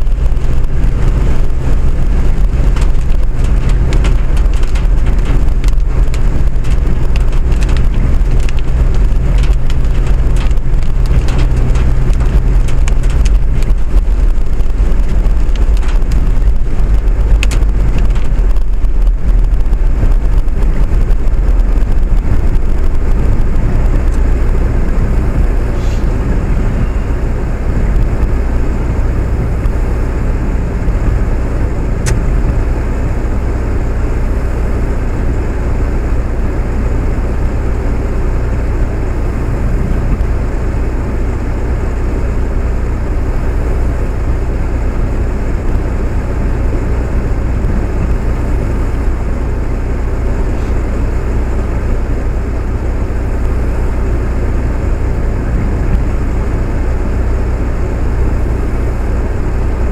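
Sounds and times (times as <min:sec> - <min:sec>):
vehicle running rumble: 0:00.0 - 0:59.9.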